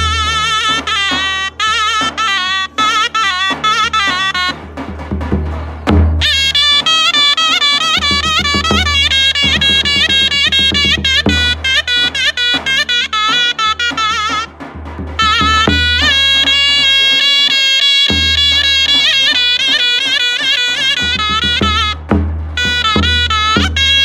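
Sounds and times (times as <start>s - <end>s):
shrill reed pipe melody: 0.0s - 5.2s, 6.2s - 24.0s
drum beats: 0.0s - 24.0s.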